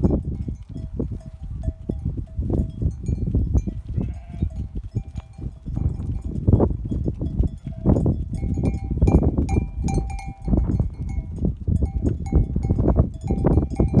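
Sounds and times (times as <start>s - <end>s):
animals thumping and moving: 0.0s - 14.0s
livestock bells clanking: 0.0s - 14.0s.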